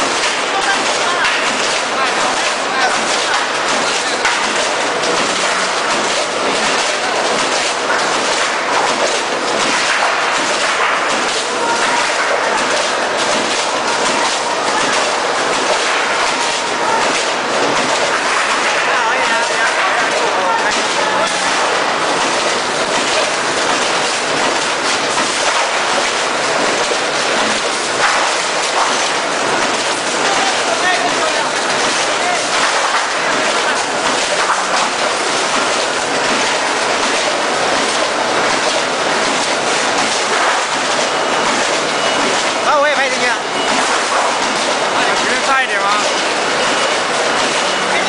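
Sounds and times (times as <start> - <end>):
machine clatter: 0.0 - 48.0.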